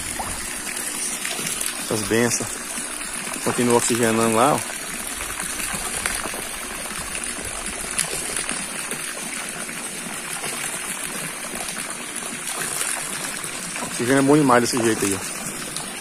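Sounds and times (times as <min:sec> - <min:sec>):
water jet splashing into tank: 0:00.0 - 0:16.0.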